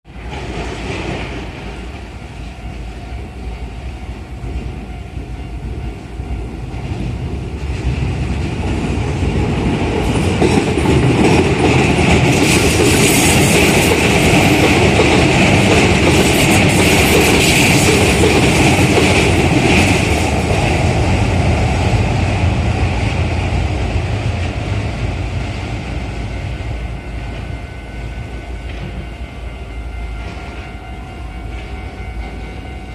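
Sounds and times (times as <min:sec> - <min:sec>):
train wheels on rails: 0:00.1 - 0:32.9
crossing warning bell: 0:01.3 - 0:22.3, 0:24.6 - 0:32.9.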